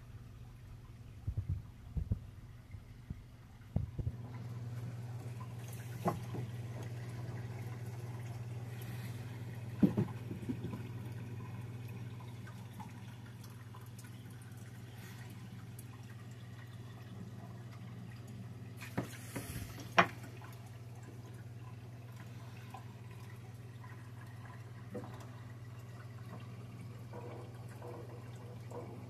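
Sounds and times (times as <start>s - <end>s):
aquarium equipment humming: 0.0s - 29.0s
water trickling and bubbling: 0.3s - 29.0s.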